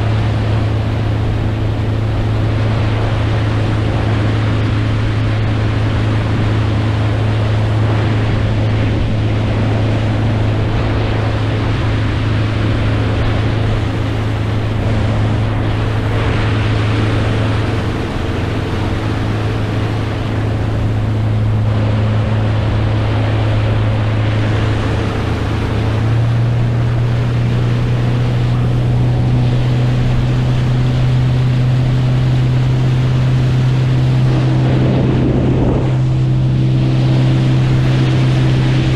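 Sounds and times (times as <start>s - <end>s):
boat engine humming: 0.0s - 38.9s
wind and water rushing: 0.0s - 38.9s.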